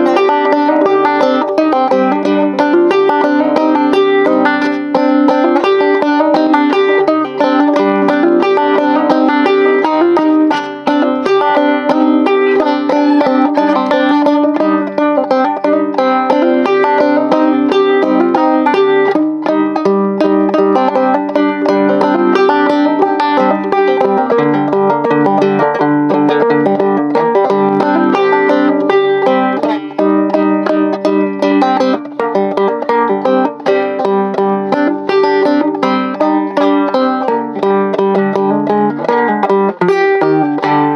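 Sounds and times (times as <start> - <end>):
banjo picking: 0.0 - 40.9.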